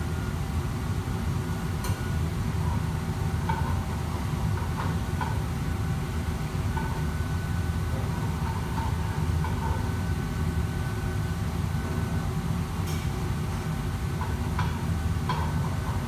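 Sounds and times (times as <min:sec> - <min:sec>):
faint steady whine: 0:00.0 - 0:16.0
gas burner and extractor roar: 0:00.0 - 0:16.0.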